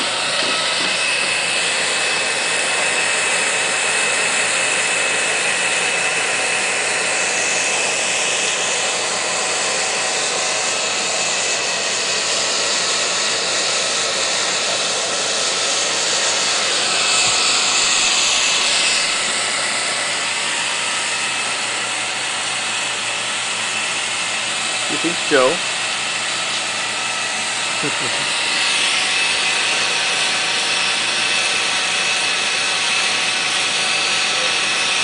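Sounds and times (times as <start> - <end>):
hair dryer blowing: 0.0 - 35.0.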